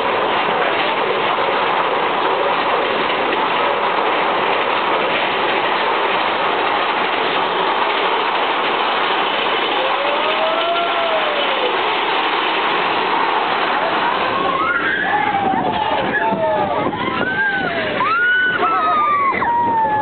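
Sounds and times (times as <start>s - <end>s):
roller coaster rushing along track: 0.0s - 20.0s.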